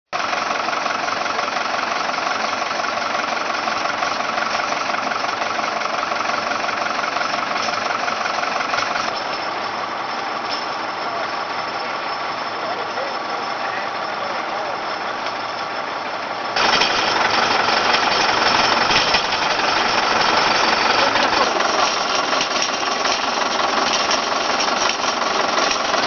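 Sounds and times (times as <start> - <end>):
crawler loader engine running: 0.2 - 26.0.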